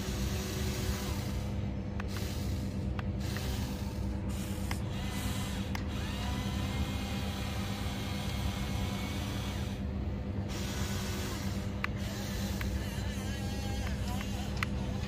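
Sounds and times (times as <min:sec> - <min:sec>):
electric motors and gearboxes whirring: 0:00.0 - 0:15.0.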